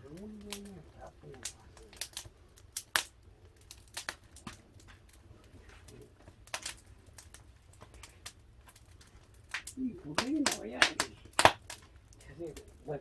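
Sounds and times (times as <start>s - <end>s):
firewood crackling and popping: 0.0s - 13.0s
low fire rumble: 0.0s - 13.0s.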